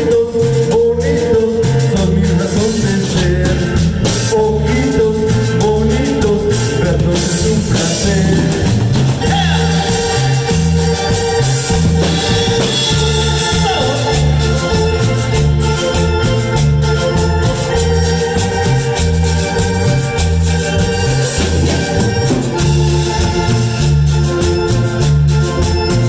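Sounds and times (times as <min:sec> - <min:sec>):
electronic keyboard organ sound: 0:00.0 - 0:26.0
repeating bass line: 0:00.0 - 0:26.0.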